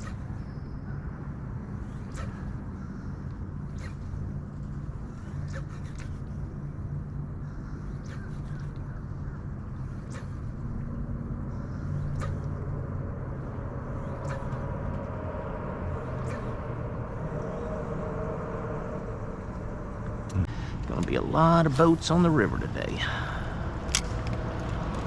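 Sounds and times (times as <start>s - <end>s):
motorboat engine drone: 0.0s - 25.0s.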